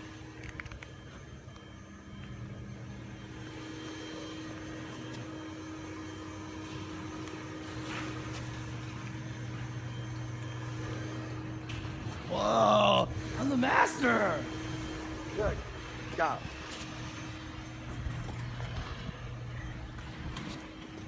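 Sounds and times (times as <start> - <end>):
garage door opener motors humming: 0.0 - 21.0.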